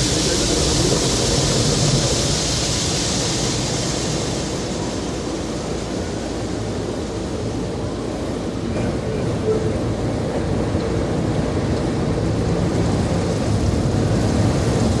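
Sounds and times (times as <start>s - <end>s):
car wash spraying water: 0.0s - 8.8s, 9.8s - 15.0s.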